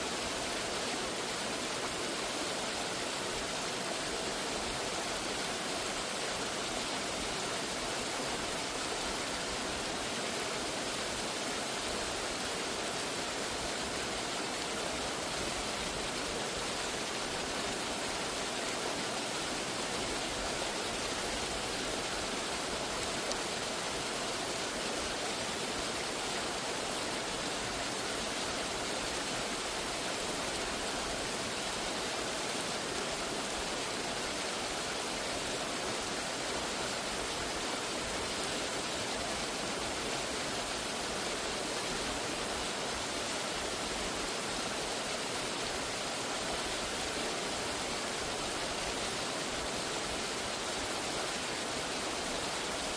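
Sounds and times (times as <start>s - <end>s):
cascading water rushing: 0.0s - 52.9s.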